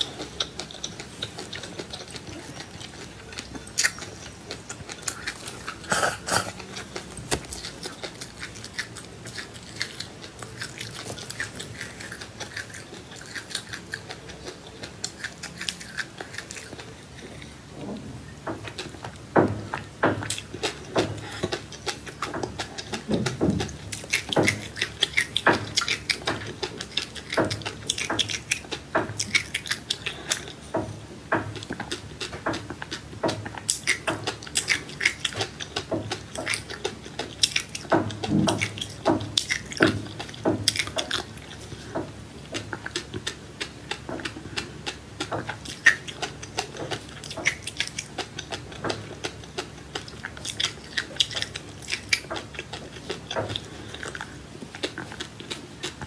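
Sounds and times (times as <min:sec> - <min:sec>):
chewing and crunching seeds: 0:00.0 - 0:56.0.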